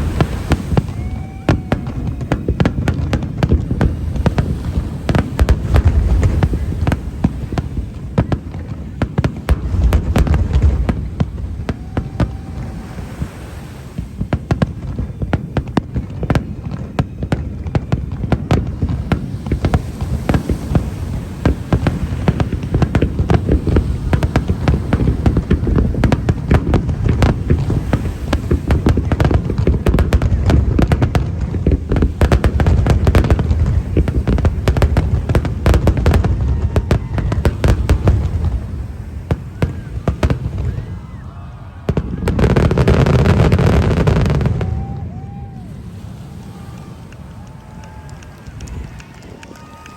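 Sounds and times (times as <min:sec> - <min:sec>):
fireworks booms and crackling: 0:00.0 - 0:49.9.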